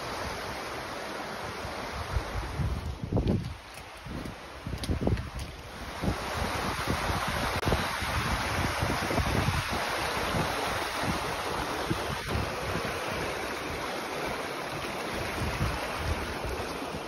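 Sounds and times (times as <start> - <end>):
stream rushing over stones: 0.0 - 17.0
wind buffeting microphone: 2.0 - 17.0.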